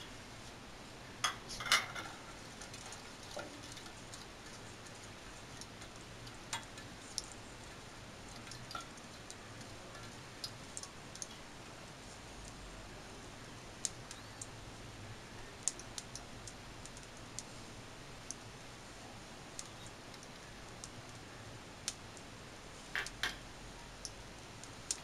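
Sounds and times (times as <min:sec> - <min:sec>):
spices crackling in oil: 0:00.0 - 0:25.0.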